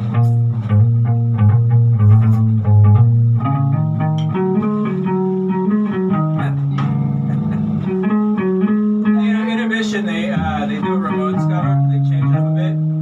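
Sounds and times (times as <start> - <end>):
low bass notes: 0.0 - 13.0
plucked guitar notes: 0.0 - 13.0.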